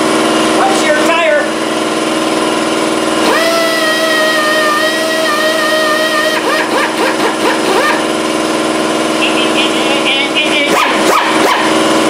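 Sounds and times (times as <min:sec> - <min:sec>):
steady low hum: 0:00.0 - 0:12.0
pneumatic sander whine: 0:01.5 - 0:12.0.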